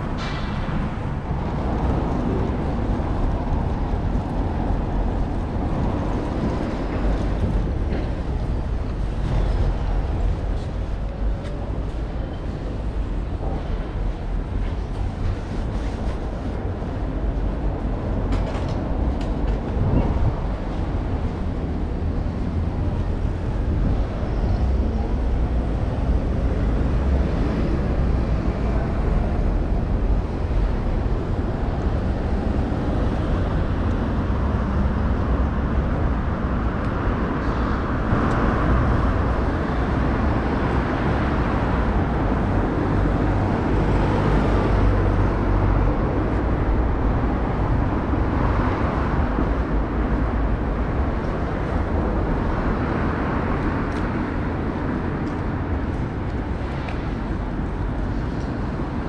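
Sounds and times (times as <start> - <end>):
vehicle traffic rumble: 0.0 - 59.0.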